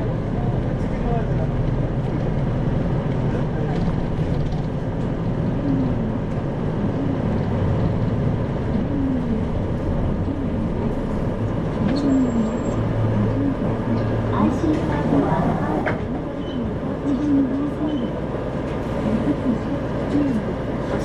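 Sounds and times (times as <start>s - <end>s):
bus diesel engine droning: 0.0s - 21.0s
road noise: 0.0s - 21.0s.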